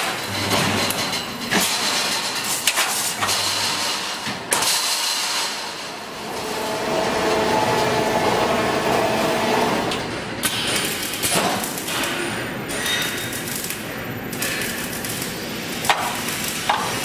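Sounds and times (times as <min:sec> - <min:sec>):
welding machine running: 0:00.0 - 0:17.0.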